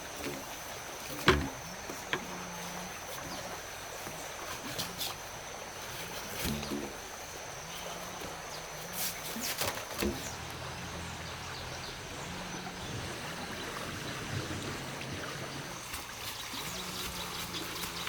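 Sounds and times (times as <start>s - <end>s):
high insect drone: 0.0s - 13.8s, 15.7s - 18.0s.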